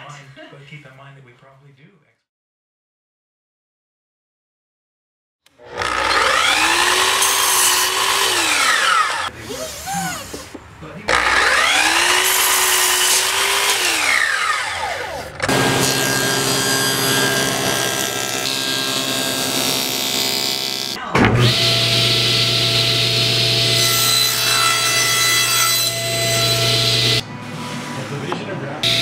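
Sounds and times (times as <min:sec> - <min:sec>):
power tools cutting wood: 0:05.5 - 0:29.0.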